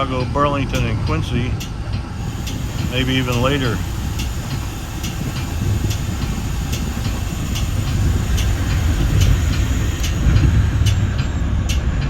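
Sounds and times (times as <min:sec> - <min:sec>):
train wheels rumbling on rail: 0:00.0 - 0:12.0
wheels clicking over track joints: 0:00.0 - 0:12.0.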